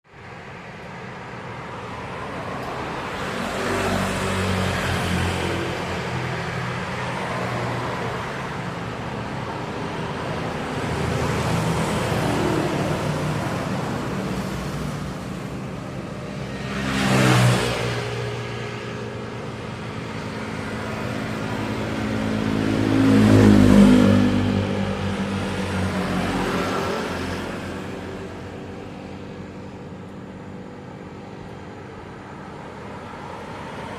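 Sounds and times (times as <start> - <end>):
vehicles passing by: 0.0 - 33.9.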